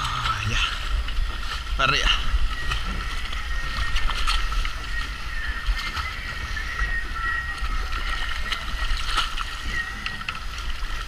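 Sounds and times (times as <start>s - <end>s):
wind and water rumble: 0.0s - 11.0s
fishing reel drag whining: 2.0s - 11.0s.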